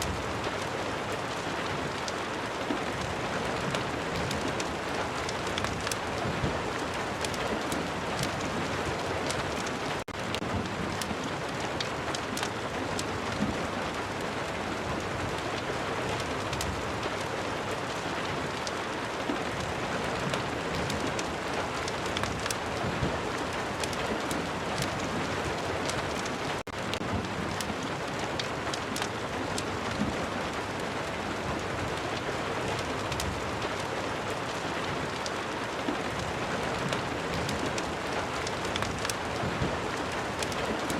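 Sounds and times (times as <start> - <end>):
raindrops ticking: 0.0 - 40.9.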